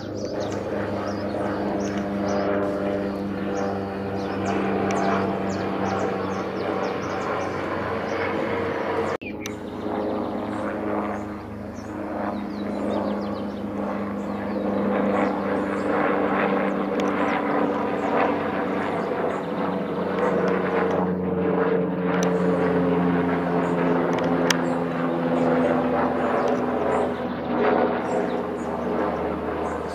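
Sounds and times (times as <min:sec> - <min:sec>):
helicopter flying overhead: 0:00.0 - 0:29.9.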